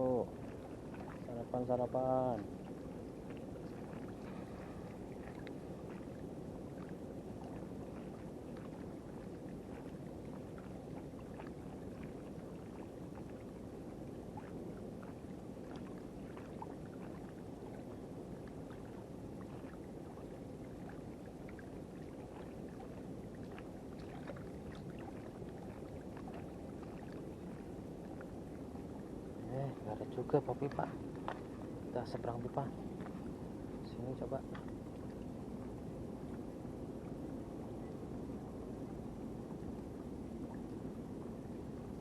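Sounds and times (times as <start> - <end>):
water clicks and trickles: 0.0 - 36.5
sea water lapping at shore: 0.0 - 42.0.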